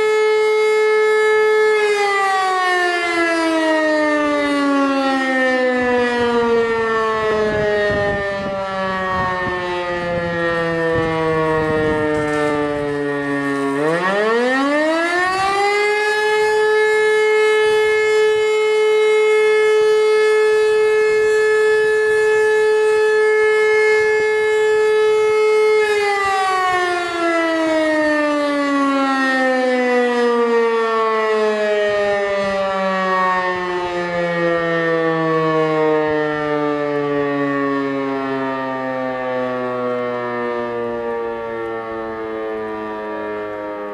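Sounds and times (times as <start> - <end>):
motor siren wailing: 0.0 - 43.9.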